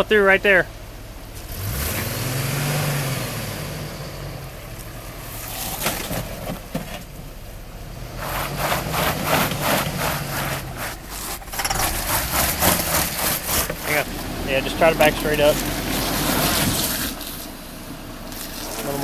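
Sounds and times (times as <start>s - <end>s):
truck engine revving: 0.0s - 19.0s
rough rapid crackling: 1.3s - 7.5s, 8.1s - 19.0s.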